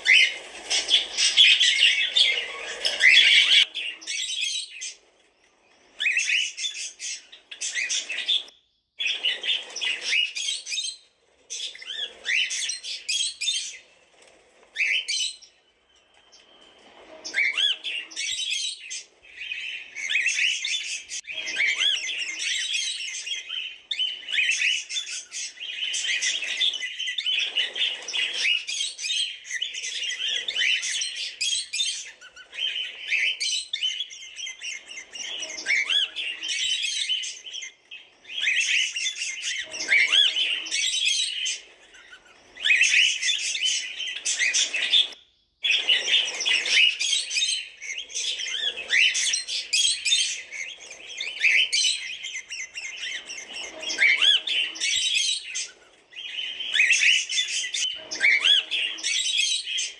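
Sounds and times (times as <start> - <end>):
cockatiels chirping: 0.0 - 59.9.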